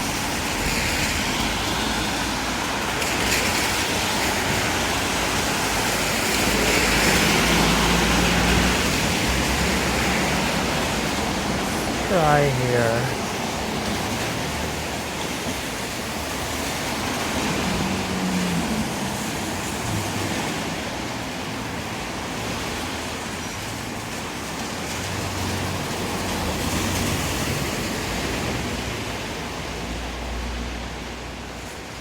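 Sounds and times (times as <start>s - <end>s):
rainy street rushing noise: 0.0s - 32.0s.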